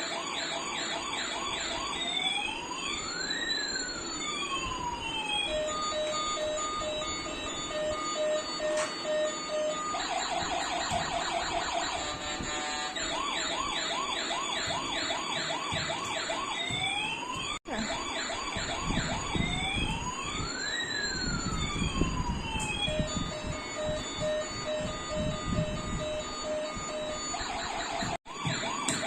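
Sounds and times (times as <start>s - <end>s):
toy electronic police siren: 0.0s - 29.0s.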